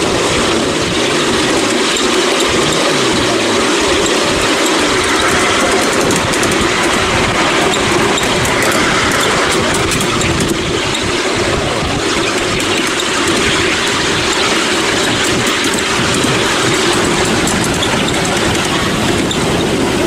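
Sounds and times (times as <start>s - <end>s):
small train wheels rumbling on rails: 0.0s - 20.0s.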